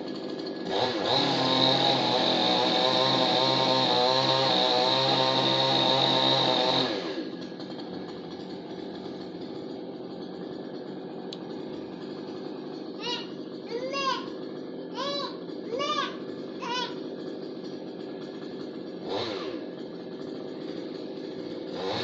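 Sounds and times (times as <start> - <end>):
chainsaw engine revving and idling: 0.0 - 22.0.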